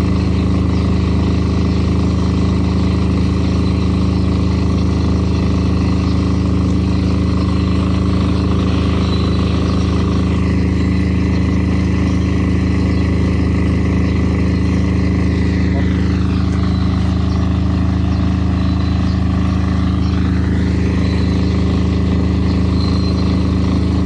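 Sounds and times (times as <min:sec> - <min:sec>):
diesel generator engine drone: 0:00.0 - 0:24.0.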